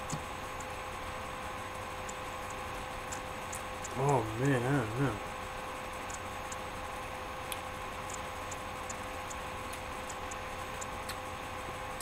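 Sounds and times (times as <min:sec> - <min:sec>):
faint regular ticking: 0:00.0 - 0:12.0
steady electrical hum: 0:00.0 - 0:12.0.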